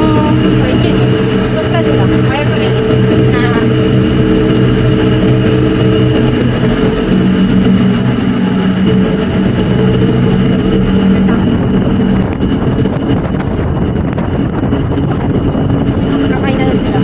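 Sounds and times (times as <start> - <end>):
rushing noise: 0.0 - 17.0
ship engines humming: 0.0 - 17.0.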